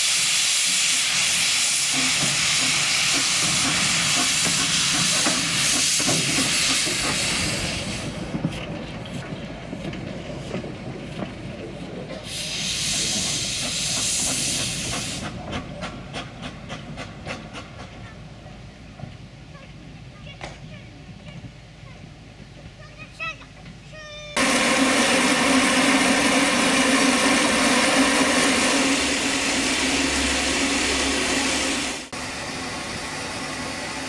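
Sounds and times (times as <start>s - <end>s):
steam locomotive hissing: 0.0s - 18.9s, 23.9s - 34.0s.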